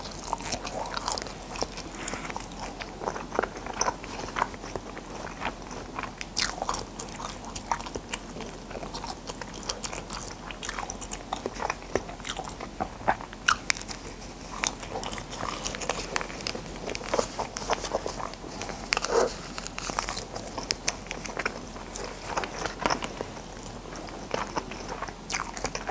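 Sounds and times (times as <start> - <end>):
person chewing snack: 0.0 - 25.9.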